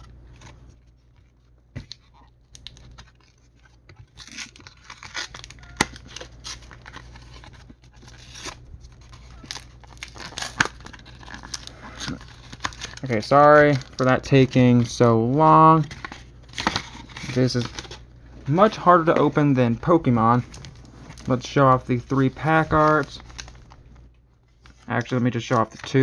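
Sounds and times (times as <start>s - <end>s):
wrapper tearing and crinkling: 0.0s - 15.0s, 15.7s - 23.9s.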